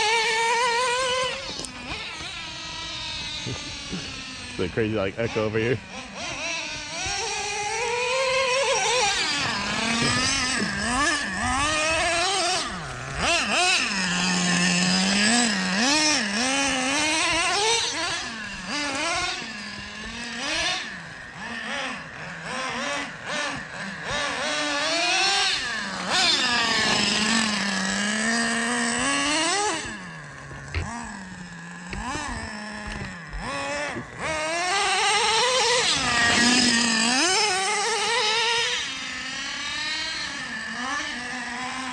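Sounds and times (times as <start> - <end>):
small engine revving: 0.0 - 41.9.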